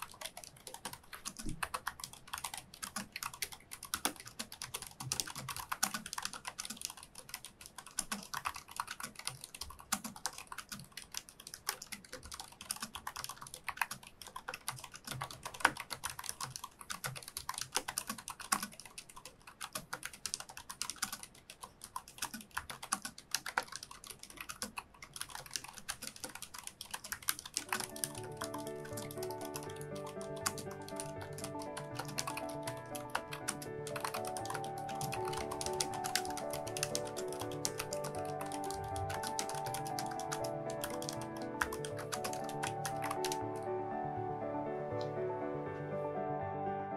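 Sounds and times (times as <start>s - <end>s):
keyboard keystroke clacks: 0.0s - 43.6s.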